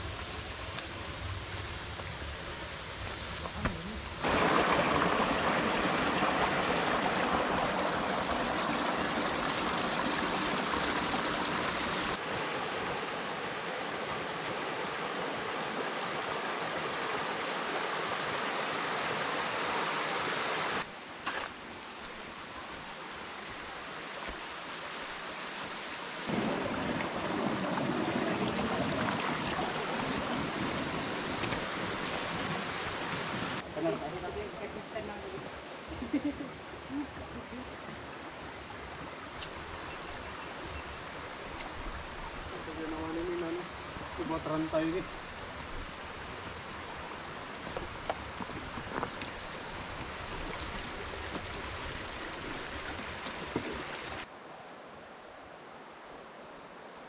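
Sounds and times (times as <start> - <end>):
rushing stream water: 0.0 - 57.0.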